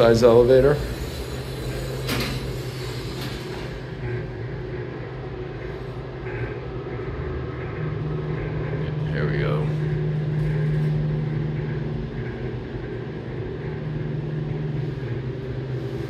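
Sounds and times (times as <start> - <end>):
elevator low hum and rumble: 0.0 - 16.0.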